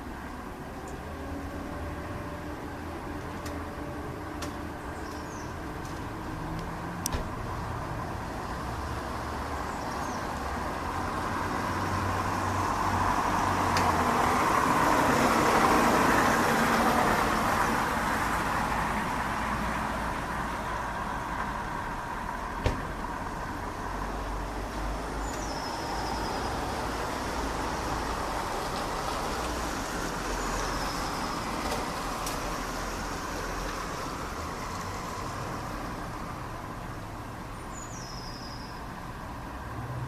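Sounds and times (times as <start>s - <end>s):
passing vehicle rumble: 0.0s - 40.0s.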